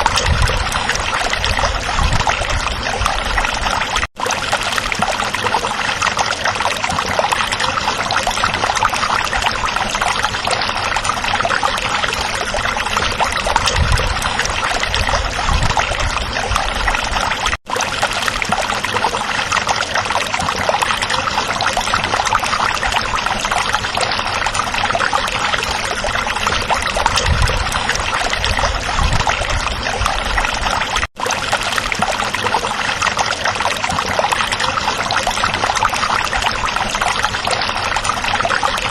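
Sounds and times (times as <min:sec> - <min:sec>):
stream water flowing and trickling: 0:00.0 - 0:38.9.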